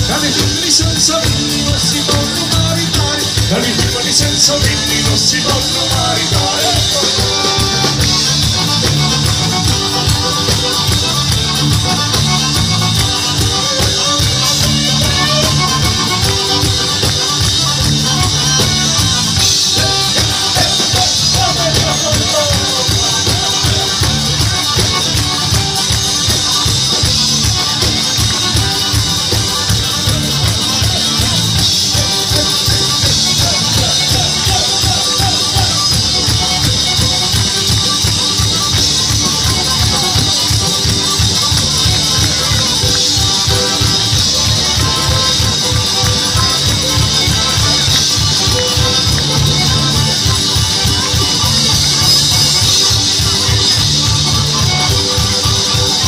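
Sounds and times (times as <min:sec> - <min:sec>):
folk band playing fast dance: 0:00.0 - 0:56.0.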